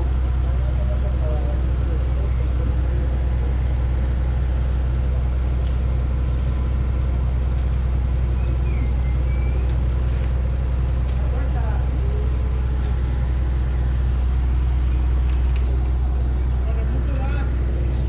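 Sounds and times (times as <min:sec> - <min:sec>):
large engine humming: 0:00.0 - 0:18.0.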